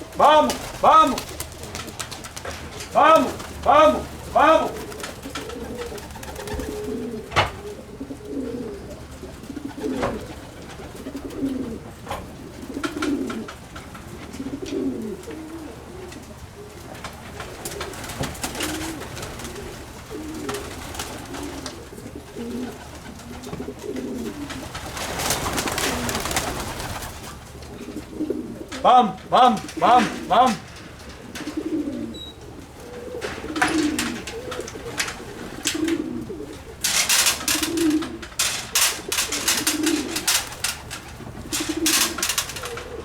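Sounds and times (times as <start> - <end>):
pigeons cooing: 0.0 - 43.0.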